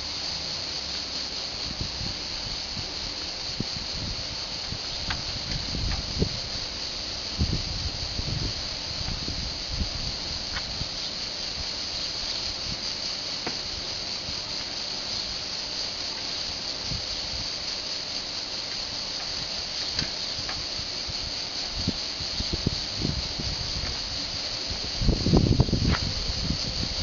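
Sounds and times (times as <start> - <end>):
pedal trainer motor whine: 0.0 - 27.0.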